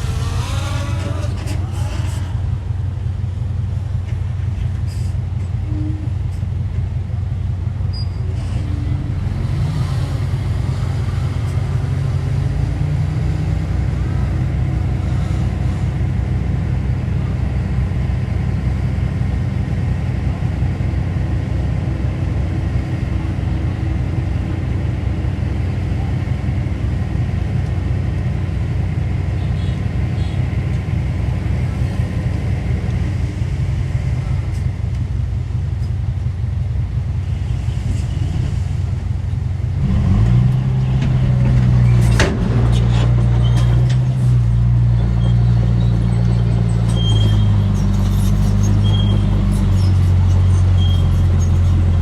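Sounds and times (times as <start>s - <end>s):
heavy diesel engine rumbling: 0.0s - 52.0s.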